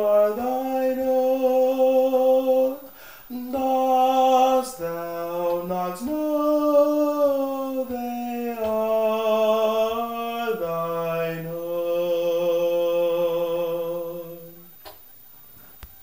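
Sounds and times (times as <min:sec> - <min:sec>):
man singing: 0:00.0 - 0:14.8.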